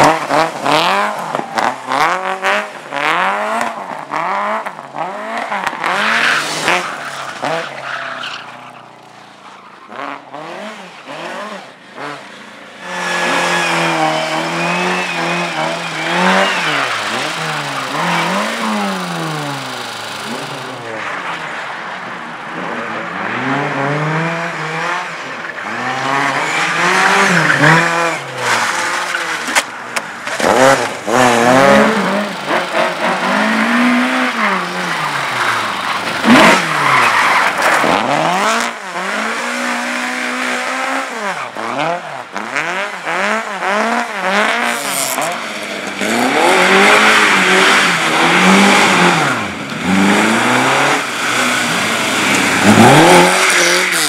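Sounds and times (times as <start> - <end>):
race car engine revving: 0.0 - 9.2, 9.8 - 54.0
tyres skidding: 0.0 - 54.0.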